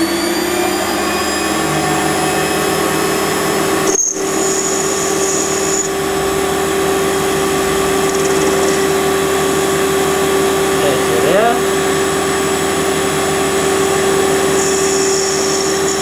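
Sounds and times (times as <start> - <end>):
metal lathe humming: 0.0 - 16.0
thin high whine: 0.0 - 16.0.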